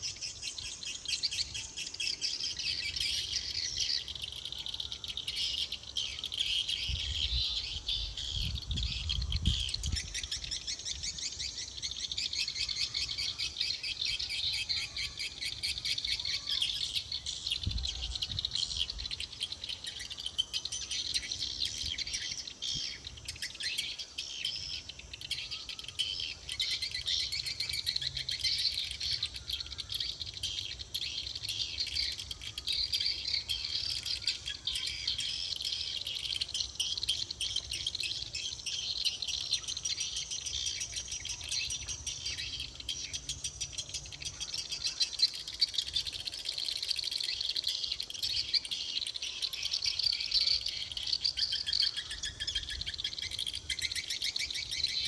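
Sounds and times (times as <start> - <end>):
birds twittering from speakers: 0.0 - 55.0.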